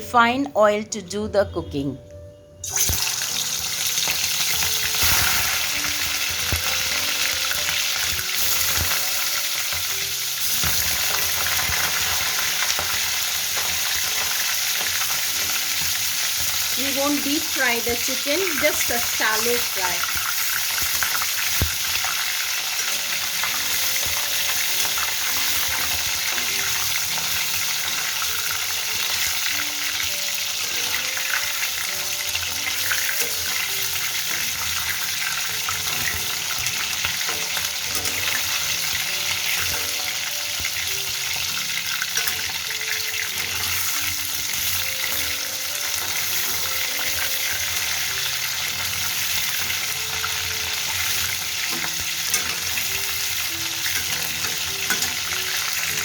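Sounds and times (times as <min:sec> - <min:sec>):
chicken frying in oil: 0:02.6 - 0:56.0.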